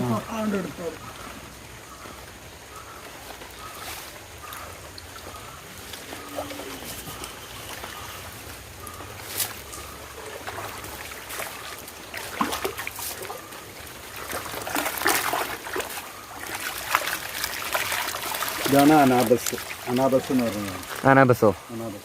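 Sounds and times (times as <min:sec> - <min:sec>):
small water splashes: 0:00.0 - 0:22.0
water trickling: 0:00.0 - 0:22.0.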